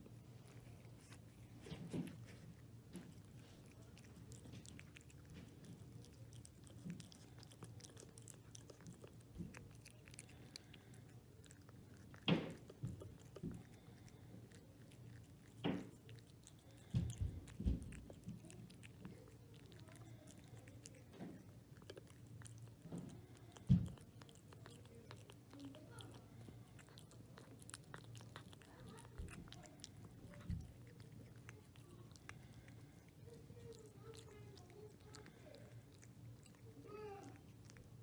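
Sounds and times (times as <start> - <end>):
cat chewing wet food: 0.0 - 38.0.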